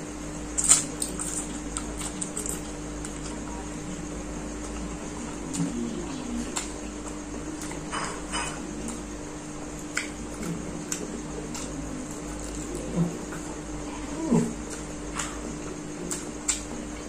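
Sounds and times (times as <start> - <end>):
faint steady hum: 0.0 - 17.0
chewing: 0.4 - 17.0.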